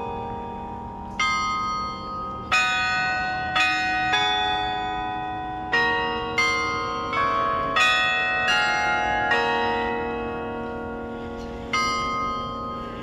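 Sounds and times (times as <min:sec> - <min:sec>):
carillon bells melody: 0:00.0 - 0:13.0.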